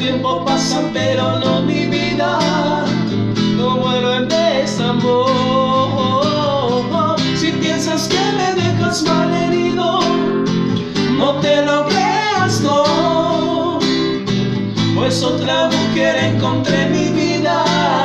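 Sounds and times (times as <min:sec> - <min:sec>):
men singing a slow ballad: 0:00.0 - 0:14.2, 0:14.8 - 0:18.0
acoustic guitar strummed: 0:00.0 - 0:18.0.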